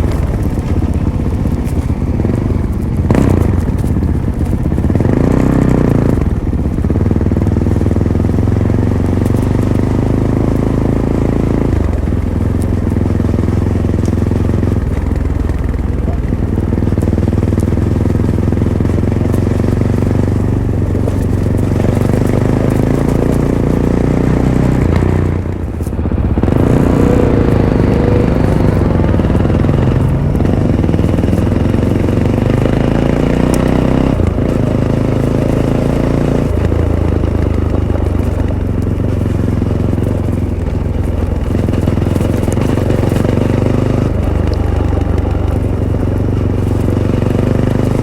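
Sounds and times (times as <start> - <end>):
motorcycle engine while riding: 0.0 - 48.0.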